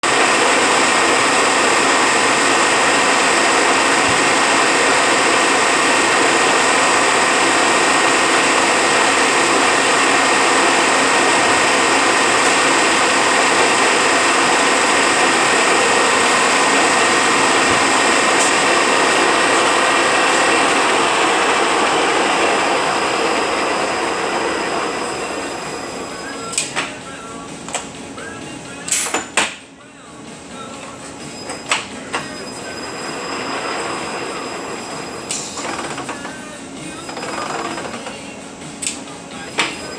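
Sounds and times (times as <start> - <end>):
truck transmission whining: 0.0 - 39.9.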